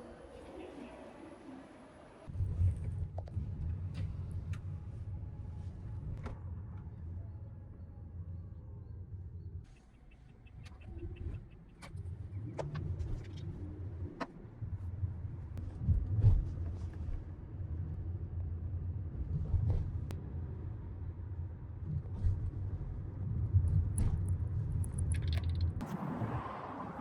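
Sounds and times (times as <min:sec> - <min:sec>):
vehicle rumble from inside: 0:02.2 - 0:27.0.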